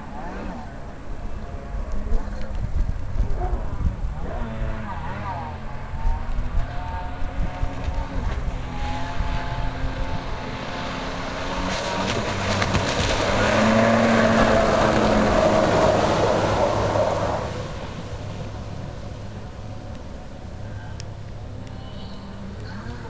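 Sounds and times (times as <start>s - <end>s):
jet ski engine at speed: 0.0s - 23.0s.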